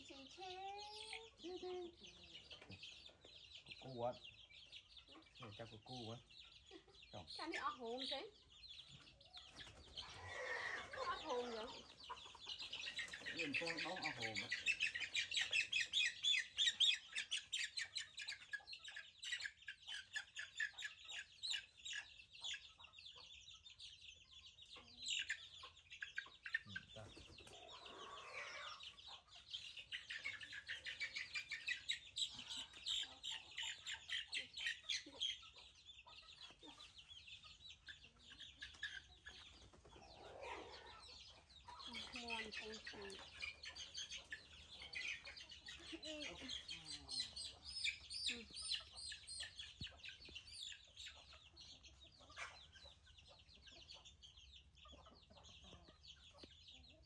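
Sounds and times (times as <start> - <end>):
chickens chirping and clucking: 0.0 - 57.0.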